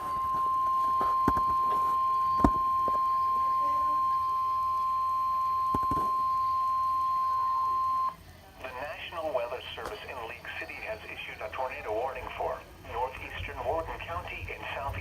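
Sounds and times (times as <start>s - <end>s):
steady warning alarm tone: 0.0s - 15.0s.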